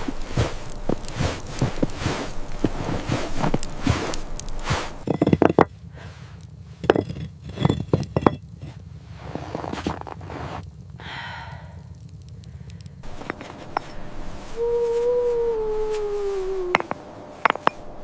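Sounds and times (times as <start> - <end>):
knocks and scrapes: 0.0 - 10.6, 13.0 - 18.0.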